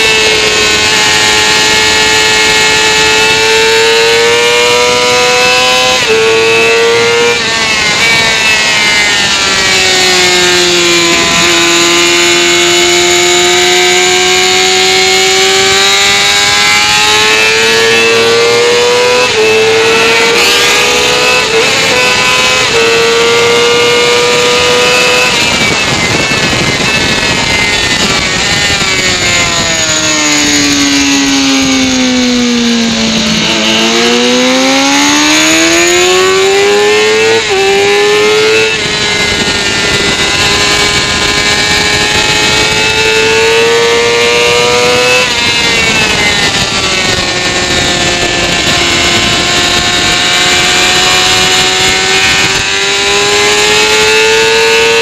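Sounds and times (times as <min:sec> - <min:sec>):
motorcycle engine at high revs: 0:00.0 - 0:55.0
wind rush: 0:05.2 - 0:55.0.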